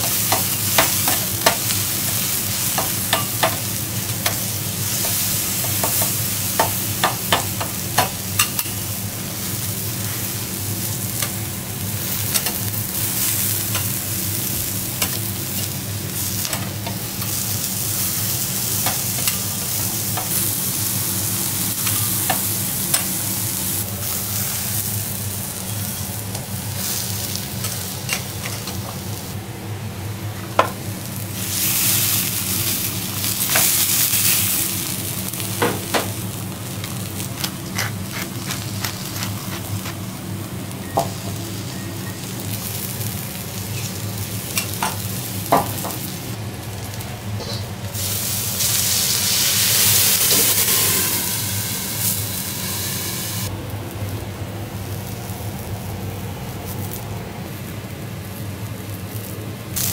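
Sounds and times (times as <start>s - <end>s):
steady low hum: 0.0s - 59.7s
lobster sizzling on griddle: 0.0s - 59.9s.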